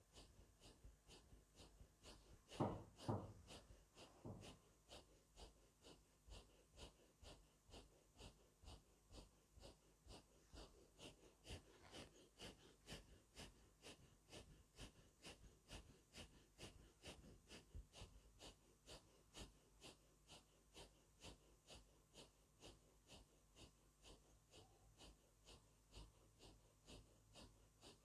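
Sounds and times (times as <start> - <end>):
rhythmic forceful nose breathing: 0.0 - 28.0.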